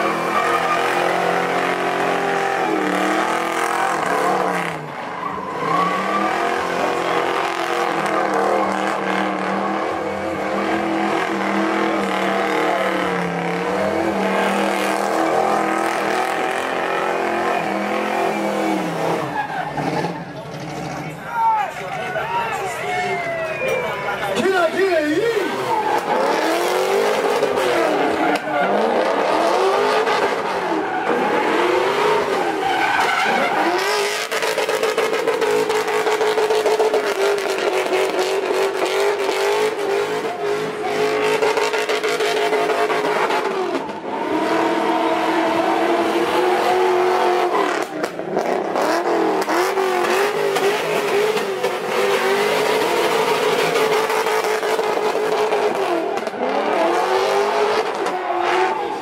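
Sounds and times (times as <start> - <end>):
car engine revving hard: 0.0 - 5.0, 5.6 - 21.0, 25.3 - 59.0
tires squealing: 0.0 - 59.0.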